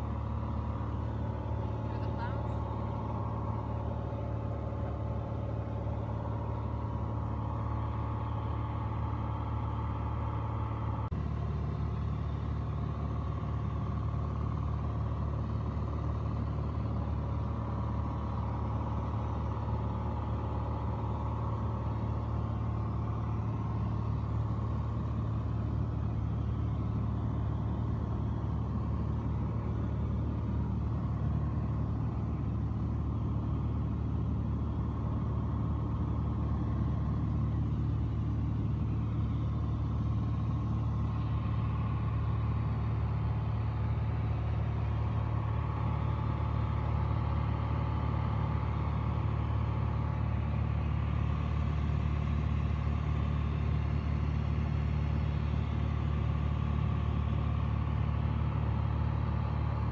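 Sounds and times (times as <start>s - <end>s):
aircraft engine droning in cabin: 0.0s - 59.9s.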